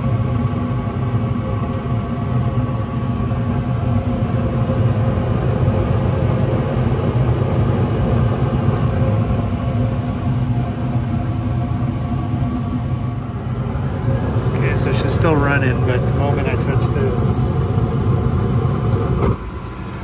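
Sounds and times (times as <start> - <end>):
furnace humming: 0.0 - 20.0.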